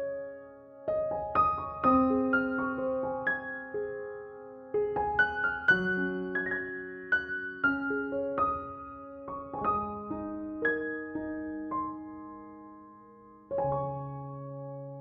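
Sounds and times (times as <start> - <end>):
soft solo piano music: 0.0 - 15.0.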